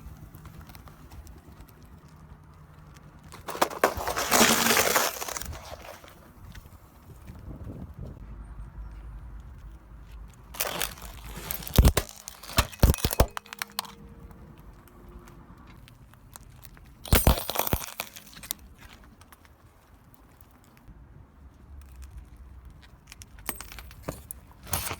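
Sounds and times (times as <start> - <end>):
objects crunching under car tyre: 0.0 - 8.1, 9.4 - 20.9, 21.6 - 24.9.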